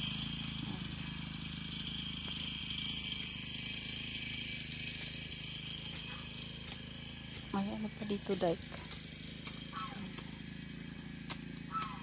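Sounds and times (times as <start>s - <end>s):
high insect drone: 0.0s - 12.0s
small engine running: 0.0s - 12.0s.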